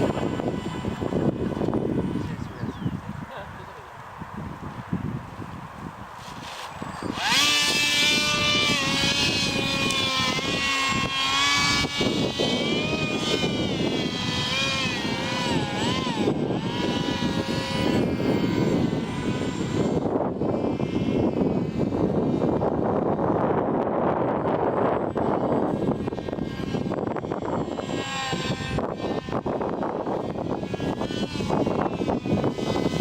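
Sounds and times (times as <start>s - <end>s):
motor and propeller whining: 0.0s - 33.0s.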